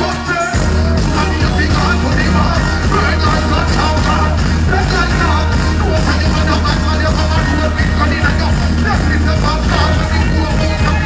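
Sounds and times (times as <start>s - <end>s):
dancehall beat with heavy bass: 0.0s - 11.0s.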